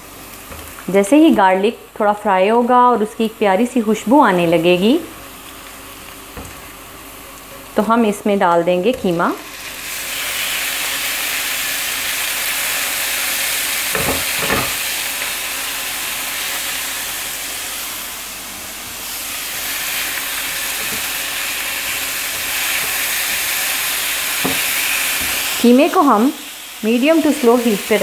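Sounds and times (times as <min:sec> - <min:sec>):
meat sizzling in a frying pan: 0:00.0 - 0:01.7, 0:03.2 - 0:28.0.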